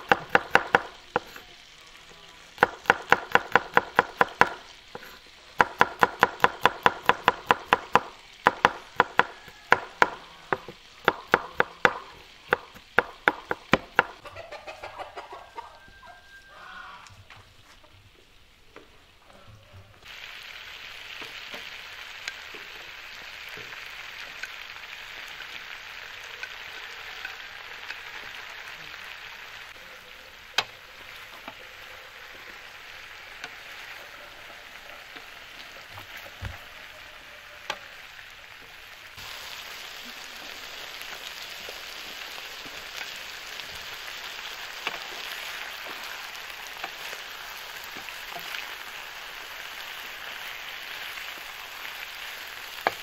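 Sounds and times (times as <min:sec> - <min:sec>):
food sizzling in oil: 0:00.0 - 0:16.7, 0:20.0 - 0:53.0.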